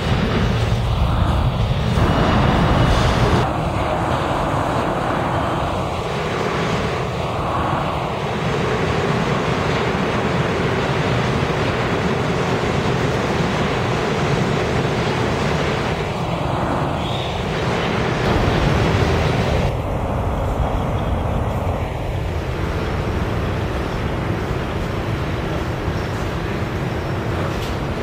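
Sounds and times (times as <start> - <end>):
subway train passing: 0.0 - 28.0.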